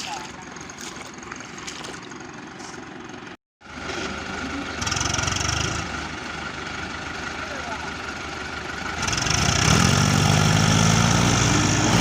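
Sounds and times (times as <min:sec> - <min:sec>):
tractor diesel engine running: 0:00.0 - 0:10.7.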